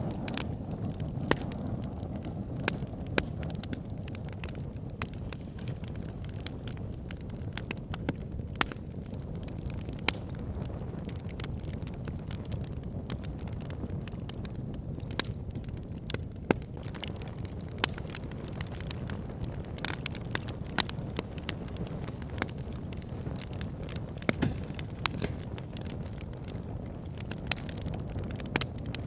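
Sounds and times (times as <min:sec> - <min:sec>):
burning wood crackling and popping: 0:00.0 - 0:29.0
low rumble of flames: 0:00.0 - 0:29.0.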